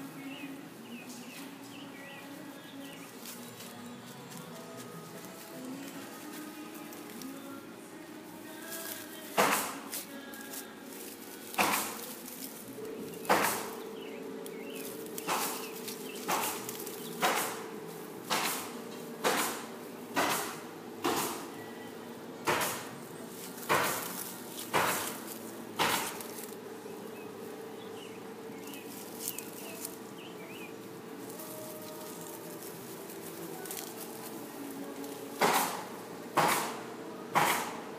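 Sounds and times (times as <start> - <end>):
crunches in dry pine straw: 0.0 - 21.8, 22.5 - 36.8
steady low hum: 0.0 - 37.9.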